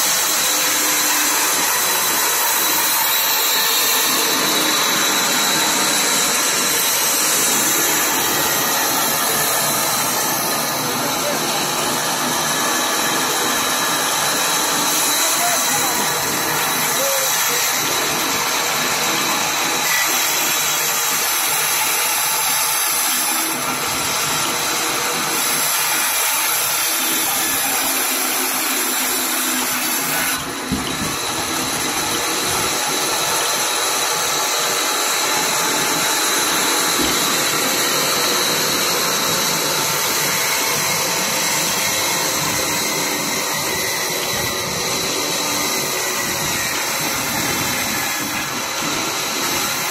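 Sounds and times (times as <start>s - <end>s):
band saw cutting log: 0.0s - 49.9s.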